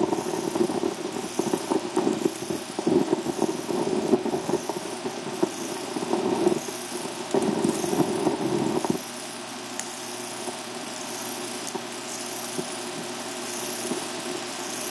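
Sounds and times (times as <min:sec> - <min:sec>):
film projector crackling and popping: 0:00.0 - 0:14.9
steady low hum: 0:00.0 - 0:14.9.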